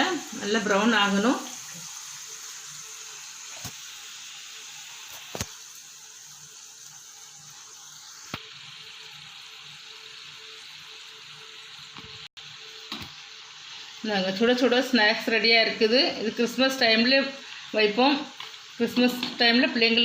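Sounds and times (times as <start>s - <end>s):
dough sizzling in hot oil: 0.0s - 20.0s.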